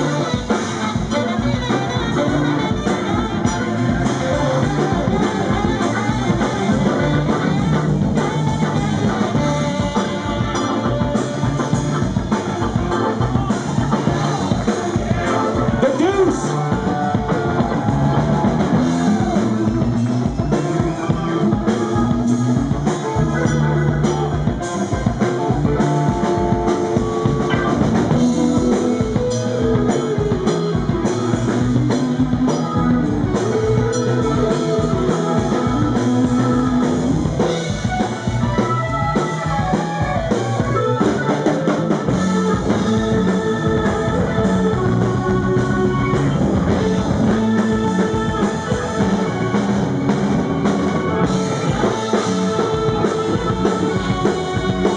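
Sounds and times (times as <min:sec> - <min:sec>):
drum kit: 0:00.0 - 0:54.9
electric guitar: 0:00.0 - 0:54.9.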